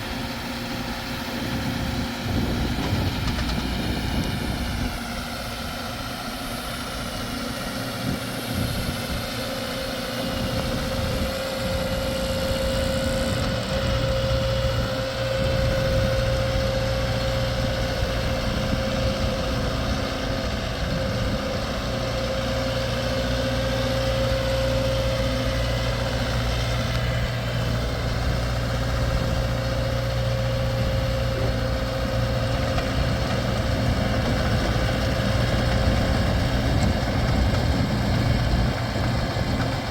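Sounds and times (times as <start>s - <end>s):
pile driver engine running: 0.0s - 39.9s.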